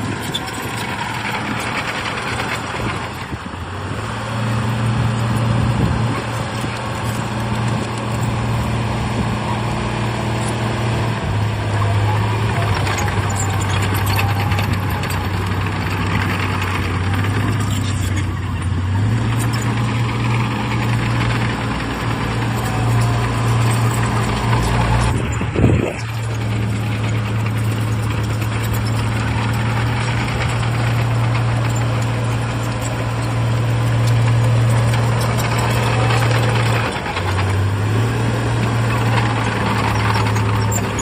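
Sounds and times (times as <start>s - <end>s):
heavy machinery diesel engine: 0.0s - 41.0s.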